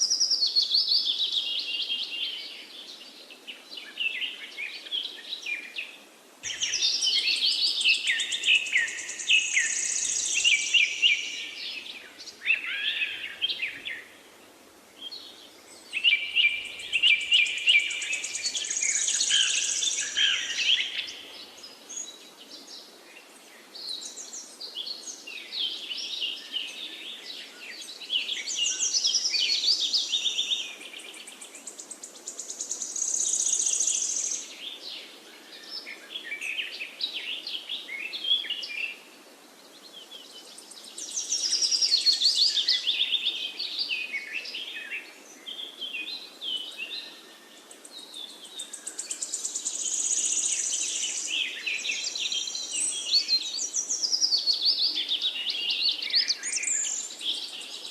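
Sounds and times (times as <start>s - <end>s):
faint steady hiss: 0.0s - 57.9s
songbird chirping and trilling: 0.0s - 57.9s.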